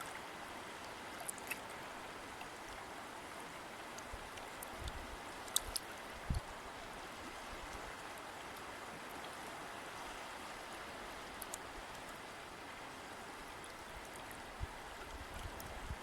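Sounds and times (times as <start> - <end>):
river water rushing: 0.0 - 16.0
small water splashes and drips: 0.0 - 16.0.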